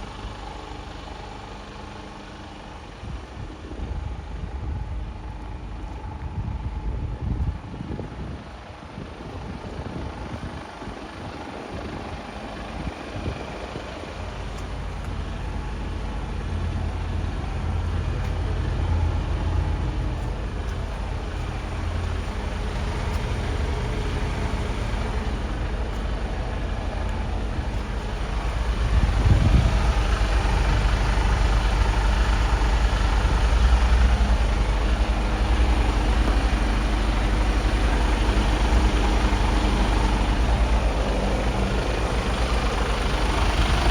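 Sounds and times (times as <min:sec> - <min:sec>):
truck diesel engine humming: 0:00.0 - 0:43.9.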